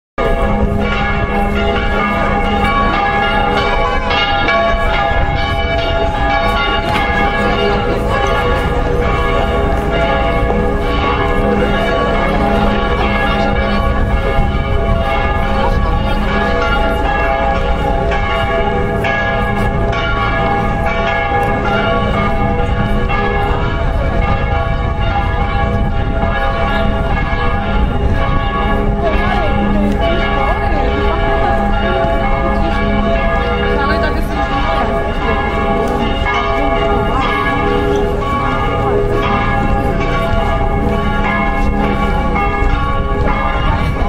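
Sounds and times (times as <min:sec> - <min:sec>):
church bells pealing: 0:00.2 - 0:44.0.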